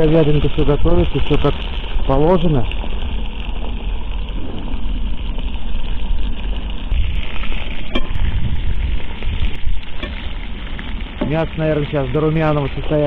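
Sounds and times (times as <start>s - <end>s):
beef sizzling in a pot: 0.0s - 13.0s
wind rumbling on microphone: 0.0s - 13.0s.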